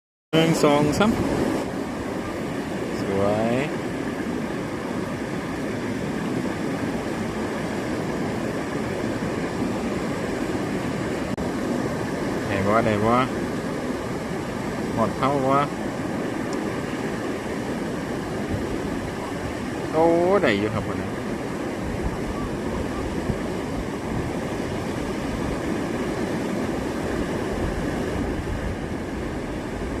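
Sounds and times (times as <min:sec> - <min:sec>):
water rushing over weir: 0:00.4 - 0:30.0.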